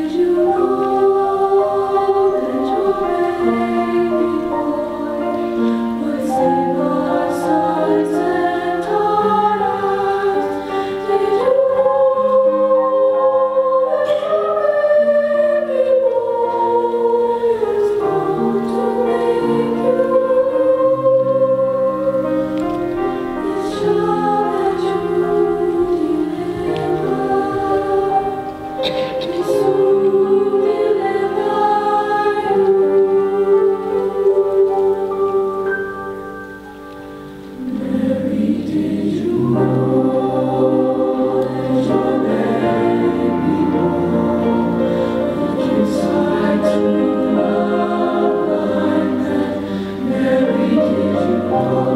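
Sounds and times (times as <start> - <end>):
choir singing in harmony: 0.0 - 51.9.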